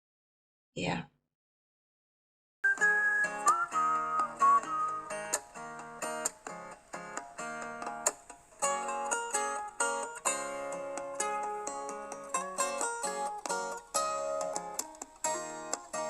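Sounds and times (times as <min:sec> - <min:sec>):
plucked strings playing chords: 0:02.7 - 0:16.0.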